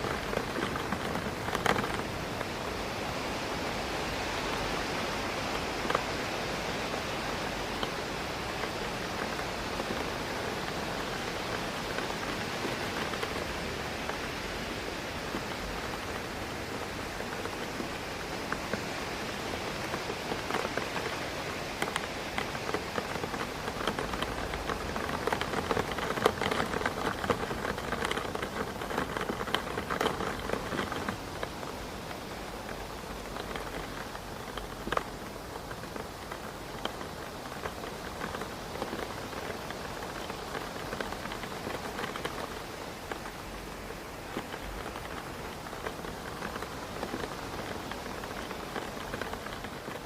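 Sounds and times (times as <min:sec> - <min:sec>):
rain hissing: 0:00.0 - 0:50.0
raindrops ticking on glass: 0:00.0 - 0:50.0.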